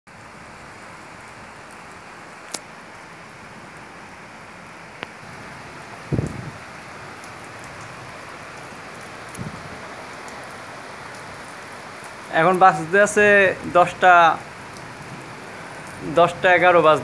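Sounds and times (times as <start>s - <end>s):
steady rain: 0.1s - 17.0s.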